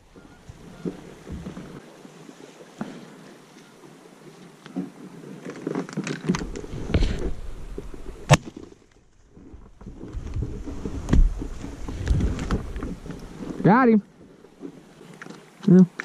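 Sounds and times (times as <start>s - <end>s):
rustling of brush and gear: 0.0s - 16.0s.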